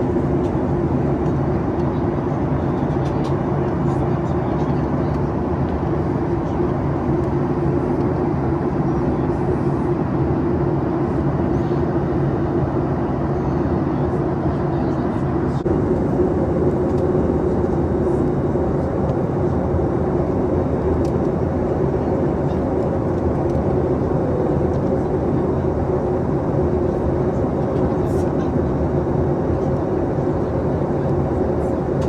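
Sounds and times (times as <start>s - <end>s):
airplane cabin engine roar: 0.0s - 32.0s.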